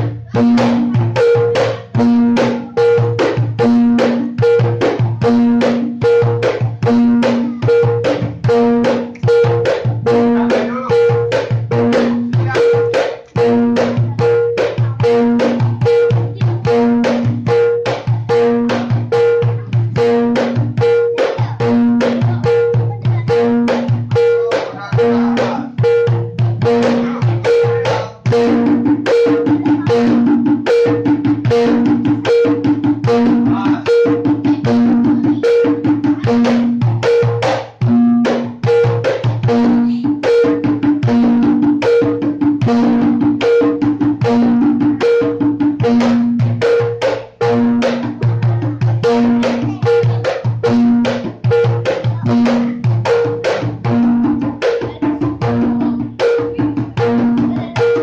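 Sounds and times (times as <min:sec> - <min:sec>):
fast hand drumming: 0:00.0 - 0:58.0.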